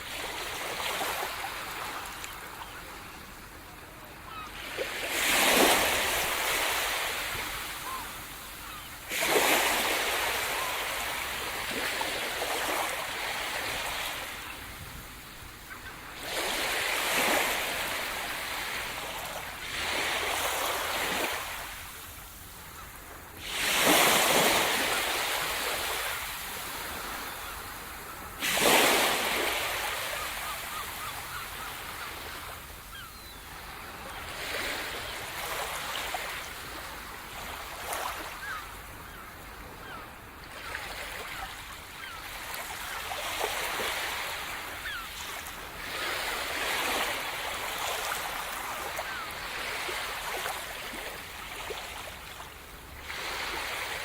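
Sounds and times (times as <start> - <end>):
sea waves crashing on shore: 0.0 - 54.0.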